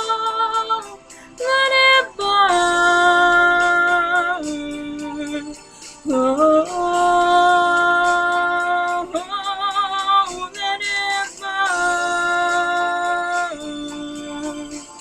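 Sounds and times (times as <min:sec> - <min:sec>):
backing track with light beat: 0:00.0 - 0:15.0
woman singing wordless notes: 0:00.0 - 0:15.0.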